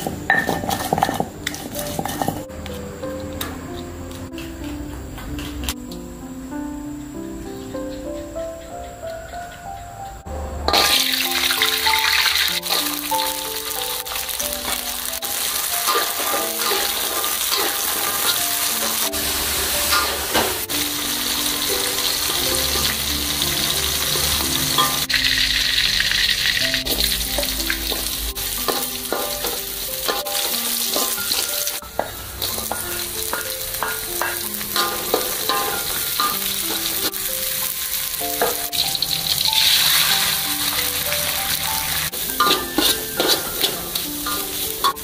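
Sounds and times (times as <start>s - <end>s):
berries sizzling in hot oil: 0.0s - 2.5s, 10.7s - 45.0s
light melodic background tune: 0.0s - 45.0s.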